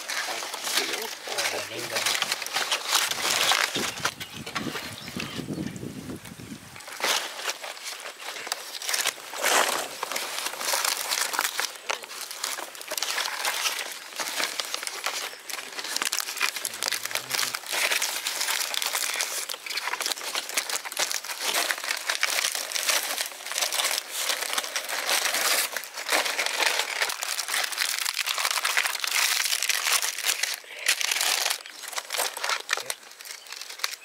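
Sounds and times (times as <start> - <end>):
dry palm leaves rustling: 0.0 - 34.0.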